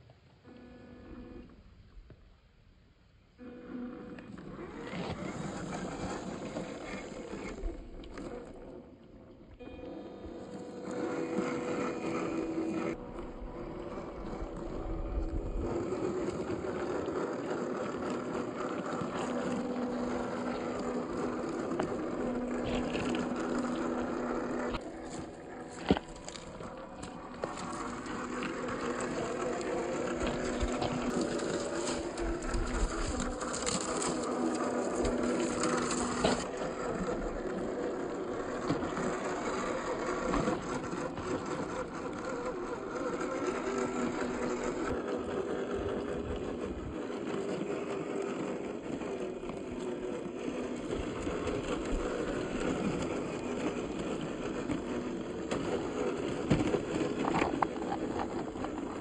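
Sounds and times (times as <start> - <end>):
toy car electric motor whine: 0.4 - 1.6, 3.4 - 59.0.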